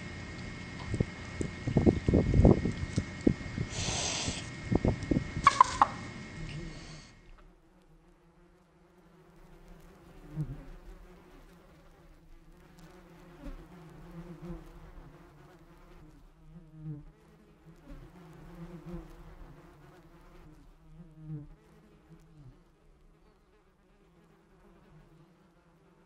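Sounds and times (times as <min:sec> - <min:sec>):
flying insects buzzing: 0:00.0 - 0:26.0.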